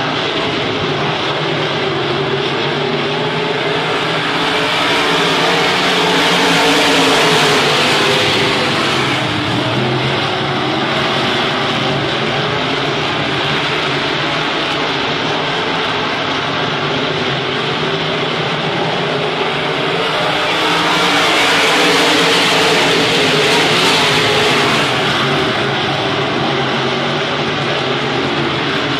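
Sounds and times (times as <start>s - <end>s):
race car engines roaring: 0.0s - 28.9s.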